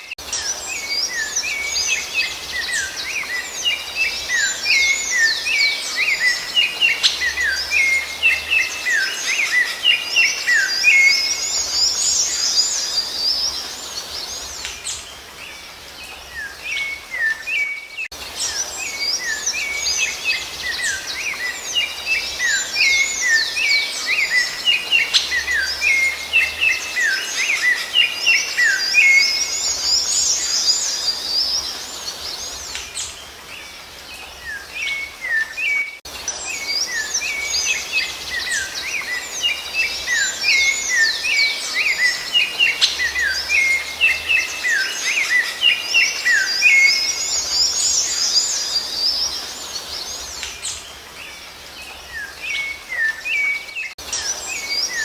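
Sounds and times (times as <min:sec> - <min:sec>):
thrush song with chirps and whistles: 0:00.0 - 0:55.0.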